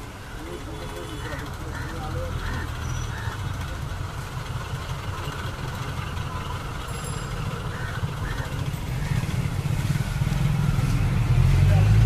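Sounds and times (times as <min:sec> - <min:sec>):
street noise: 0:00.0 - 0:12.0
vehicle engine running: 0:00.2 - 0:12.0.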